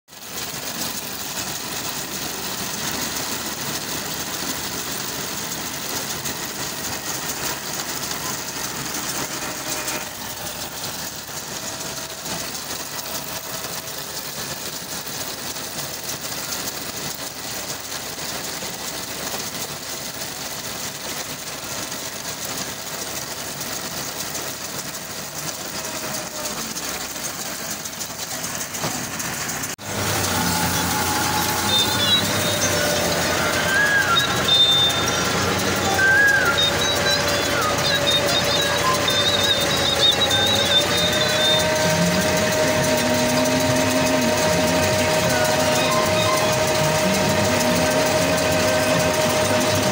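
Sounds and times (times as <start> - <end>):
tractor engine: 0.0 - 49.9.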